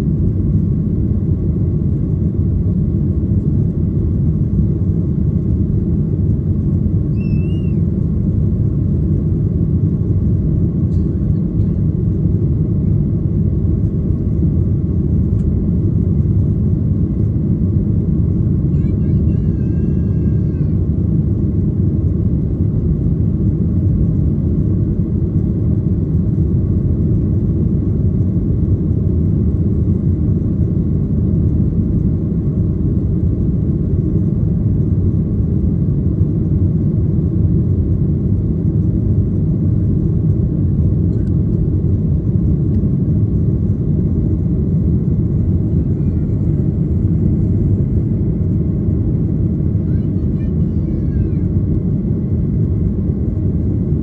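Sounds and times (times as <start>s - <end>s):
jet engines and airflow in cabin: 0.0s - 54.0s.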